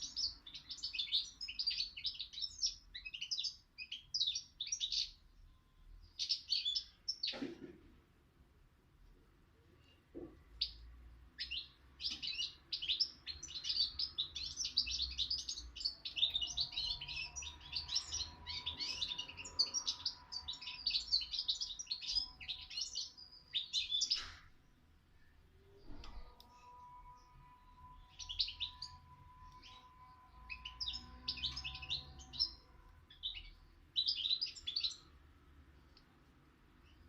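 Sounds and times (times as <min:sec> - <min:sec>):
songbird twittering and trilling: 0:00.0 - 0:07.4, 0:09.8 - 0:35.2.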